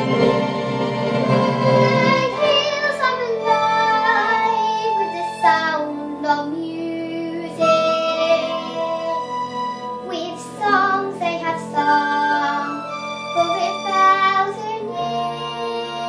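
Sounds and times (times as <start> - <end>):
instrumental backing track: 0.0 - 16.0
girl singing: 1.8 - 9.3, 10.0 - 16.0.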